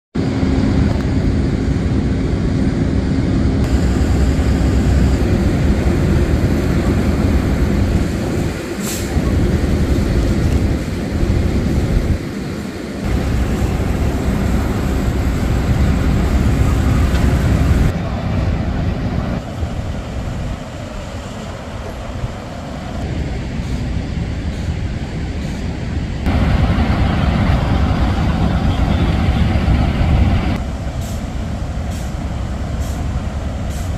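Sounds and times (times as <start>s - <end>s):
diesel engines running loudly: 0.2s - 33.9s.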